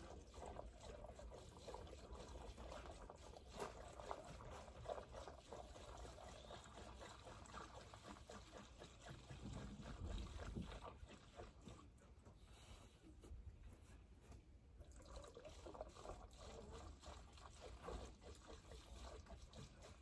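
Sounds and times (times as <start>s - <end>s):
gasoline trickling into tank: 0.0s - 12.7s, 14.8s - 20.0s.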